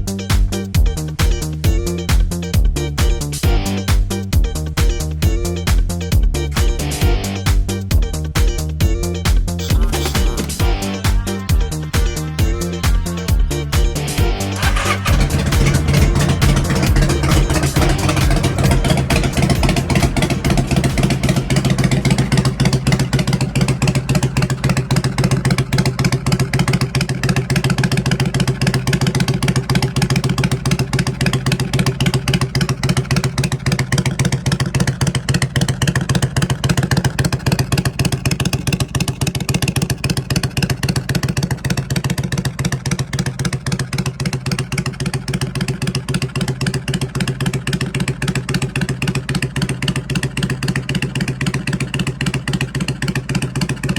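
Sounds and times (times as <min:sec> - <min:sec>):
v-twin engine idling: 0:00.0 - 0:53.9.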